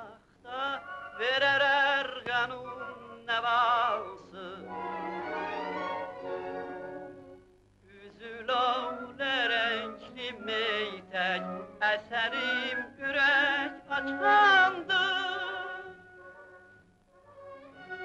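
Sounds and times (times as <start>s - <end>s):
operatic singing with vibrato: 0.0s - 16.8s.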